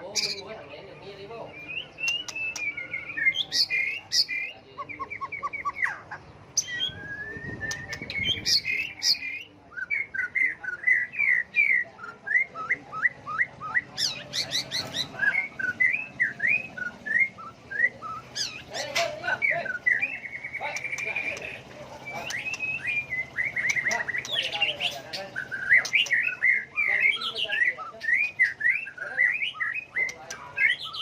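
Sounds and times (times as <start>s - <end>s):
bird singing whistled phrases: 1.5s - 5.9s, 6.6s - 18.8s, 22.1s - 24.8s, 25.4s - 31.0s.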